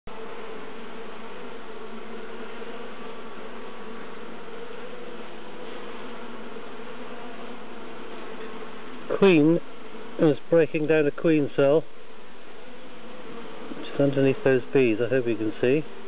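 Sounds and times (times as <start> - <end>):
honeybees buzzing: 0.1 - 16.0.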